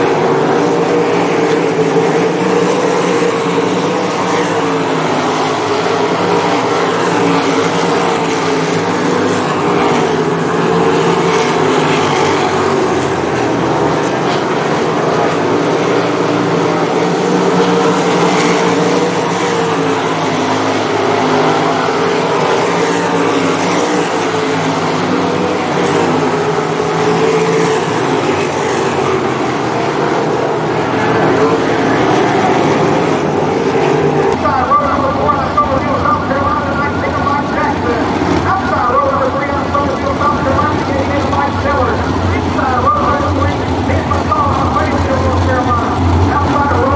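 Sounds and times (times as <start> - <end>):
racing car engines roaring: 0.0 - 46.9.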